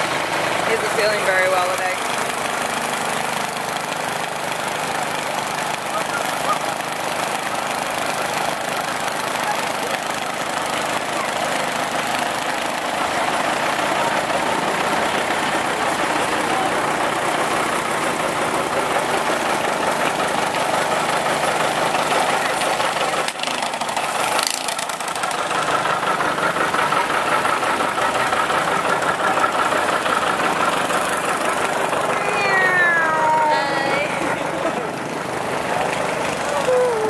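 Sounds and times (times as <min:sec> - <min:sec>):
other tractor engines running: 0:00.0 - 0:37.0
tractor diesel engine running: 0:00.0 - 0:37.0.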